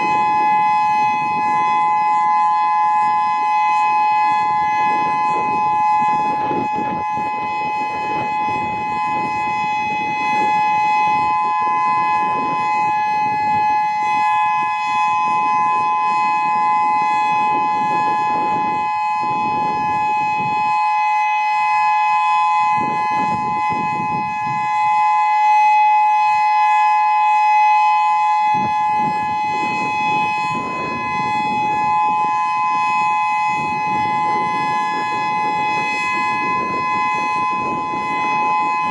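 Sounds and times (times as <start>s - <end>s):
two-pitch warning siren: 0.0s - 38.9s.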